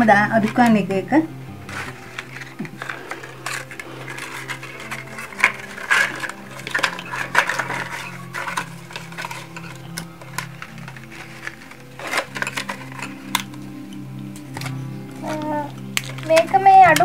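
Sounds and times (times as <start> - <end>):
leaves rustling and crackling: 0.0 - 17.0
small clicks against clay pot: 2.4 - 17.0.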